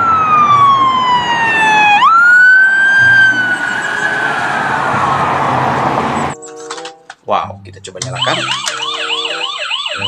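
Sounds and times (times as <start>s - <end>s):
police siren wailing: 0.0s - 6.4s, 8.1s - 10.0s.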